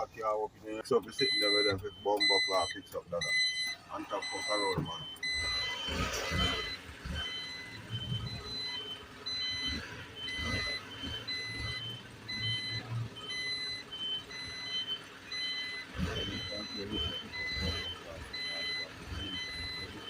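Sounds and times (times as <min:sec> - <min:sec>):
truck engine rumble: 0:00.0 - 0:20.0
two-tone reversing alarm beeping: 0:00.7 - 0:20.0.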